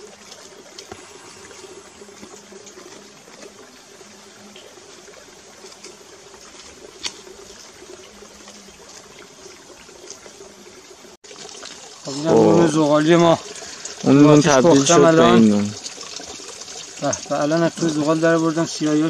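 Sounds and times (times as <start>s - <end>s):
running water trickling: 0.0s - 19.0s.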